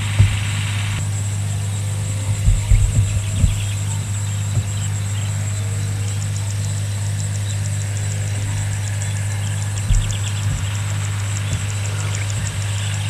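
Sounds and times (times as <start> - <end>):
faint fast ticking: 0.0 - 13.0
motor humming low: 0.0 - 13.0.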